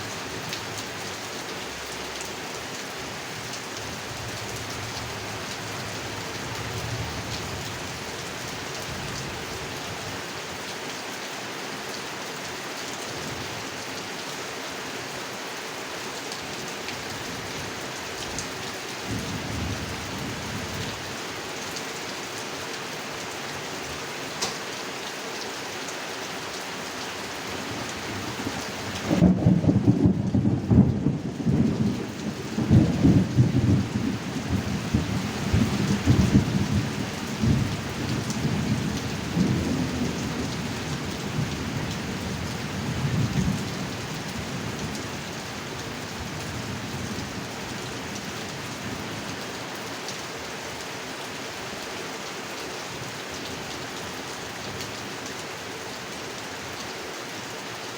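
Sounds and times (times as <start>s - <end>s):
heavy rain falling on a pond: 0.0s - 57.9s.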